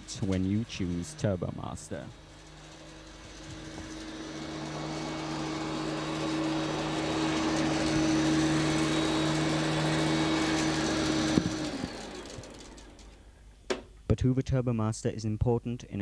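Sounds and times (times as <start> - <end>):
vacuum cleaner motor running: 0.0 - 13.9.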